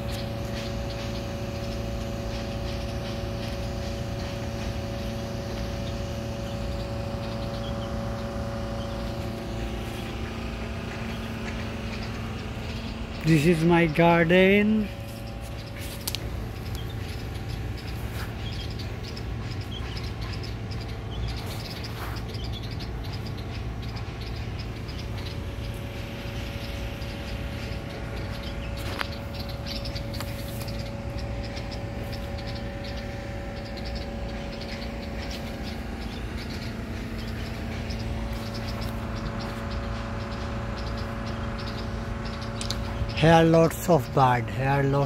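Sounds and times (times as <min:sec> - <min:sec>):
small birds chirping: 0:00.0 - 0:45.0
steady low hum: 0:00.0 - 0:45.0.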